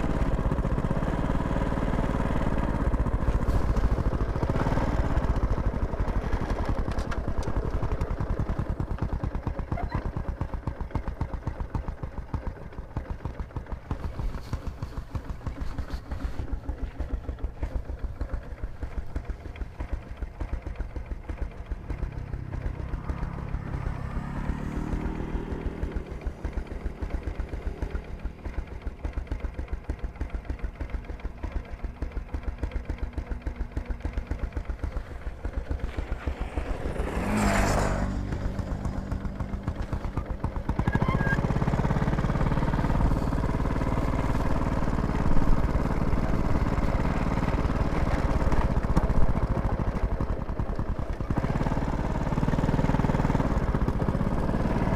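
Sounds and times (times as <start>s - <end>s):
engine running with rapid pulse: 0.0s - 54.9s.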